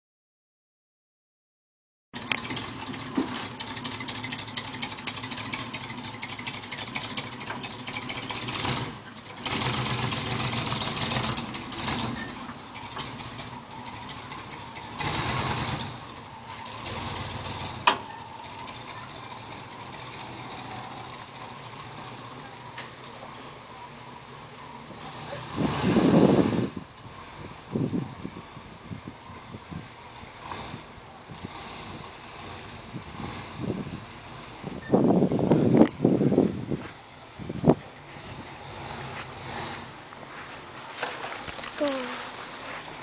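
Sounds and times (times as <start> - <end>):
engine revving: 2.2 - 43.0.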